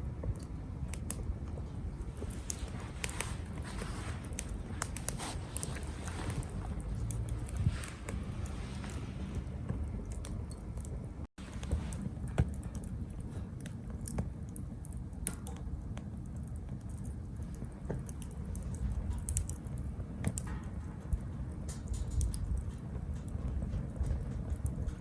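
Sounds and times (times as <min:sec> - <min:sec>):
low rumble of burning: 0:00.0 - 0:25.0
wood fire crackling and popping: 0:00.0 - 0:25.0.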